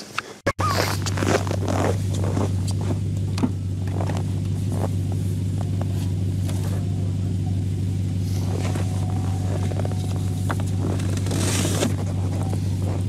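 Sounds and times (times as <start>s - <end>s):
truck engine idling: 0.6s - 13.0s
gear knocking and rustling: 0.8s - 13.0s.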